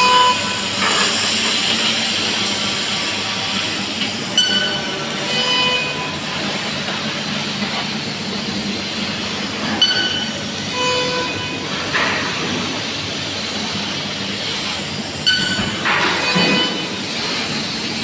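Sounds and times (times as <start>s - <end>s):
laser cutter hissing and humming: 0.0s - 18.0s.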